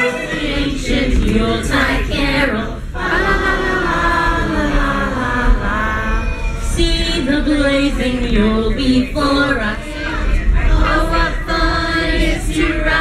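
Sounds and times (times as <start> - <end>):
group singing with children: 0.0 - 13.0.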